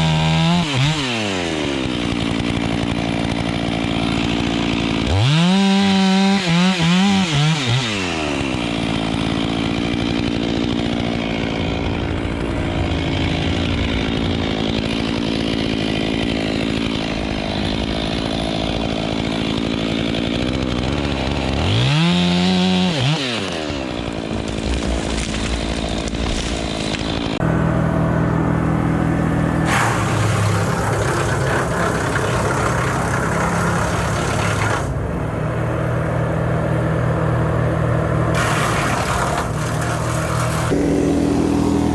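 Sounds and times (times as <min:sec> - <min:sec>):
chainsaw revving and idling: 0:00.0 - 0:41.9
rough engine running: 0:01.4 - 0:05.2, 0:08.2 - 0:21.8, 0:23.5 - 0:41.9.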